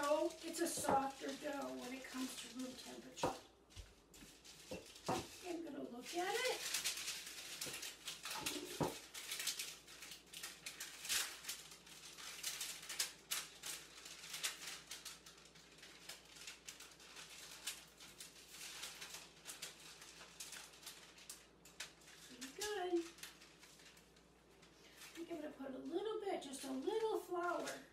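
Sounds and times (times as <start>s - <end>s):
parchment paper rustling: 0.0s - 27.9s.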